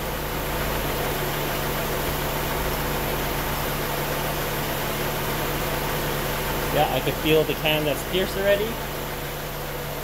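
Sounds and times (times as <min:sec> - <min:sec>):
car engine idling: 0:00.0 - 0:10.0
engine bay hum and hiss: 0:00.0 - 0:10.0.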